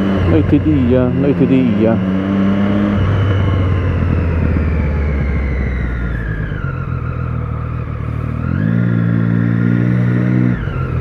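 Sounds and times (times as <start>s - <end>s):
motorcycle engine slowing down: 0.2s - 11.0s.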